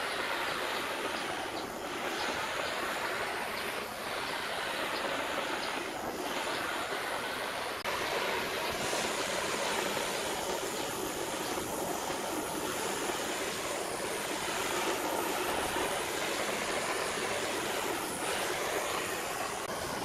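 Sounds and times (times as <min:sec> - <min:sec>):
butane torch hissing: 0:00.0 - 0:20.0.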